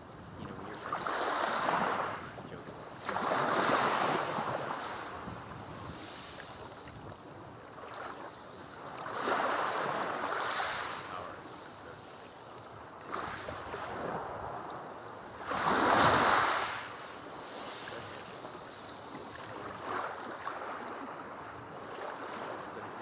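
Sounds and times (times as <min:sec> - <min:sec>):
sea waves breaking on sand: 0:00.0 - 0:23.0.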